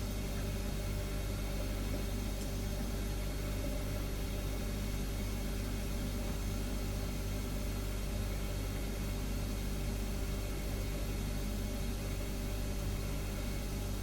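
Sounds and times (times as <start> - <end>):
refrigerator humming: 0.0 - 14.0.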